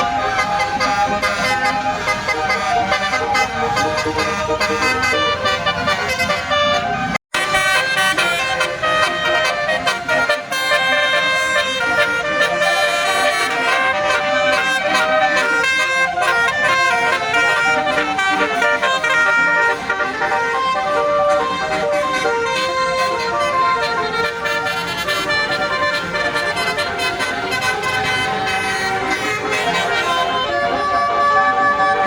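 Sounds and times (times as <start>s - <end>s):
multi-tone bus horn melody: 0.0s - 32.0s.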